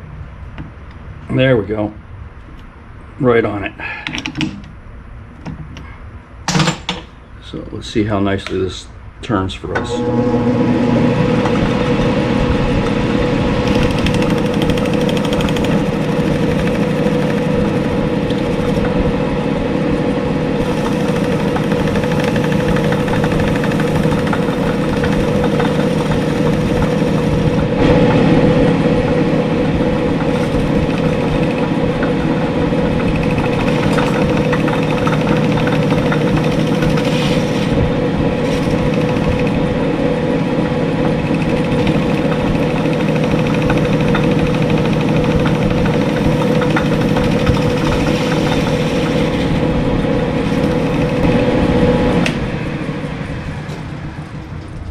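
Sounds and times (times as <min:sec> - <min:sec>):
metal lathe humming: 0:09.7 - 0:54.2.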